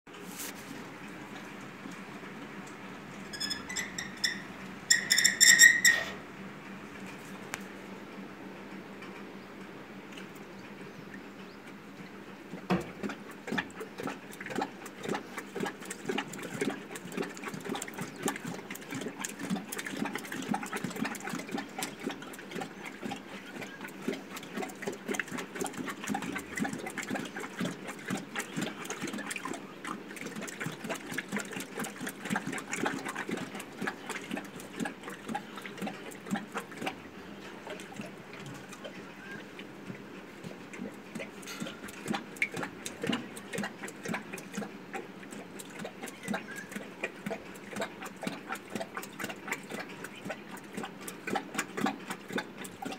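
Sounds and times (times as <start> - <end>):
lions lapping water: 0.1 - 52.9.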